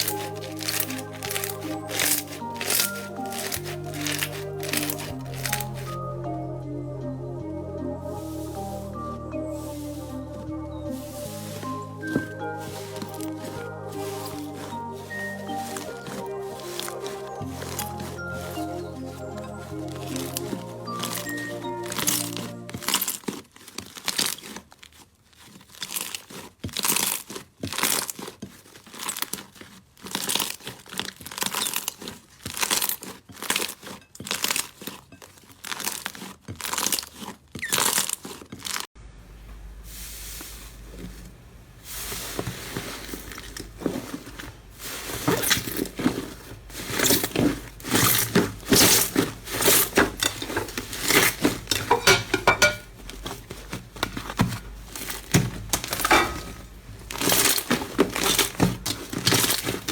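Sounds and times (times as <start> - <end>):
slime crackling and crunching: 0.0 - 6.2, 8.2 - 39.0, 40.1 - 59.9.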